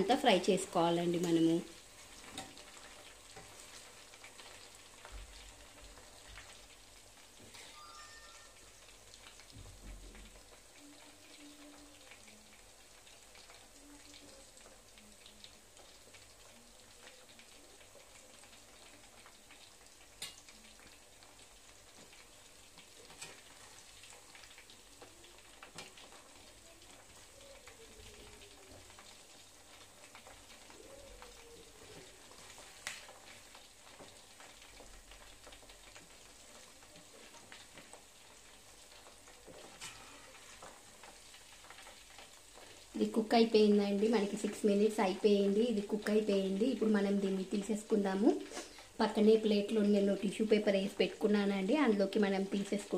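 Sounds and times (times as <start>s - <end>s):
chicken deep-frying in oil: 0.0s - 52.9s.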